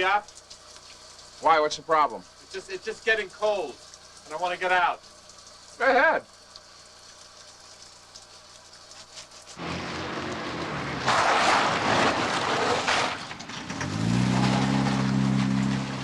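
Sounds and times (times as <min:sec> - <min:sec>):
water rushing in plumbing: 0:00.0 - 0:12.9.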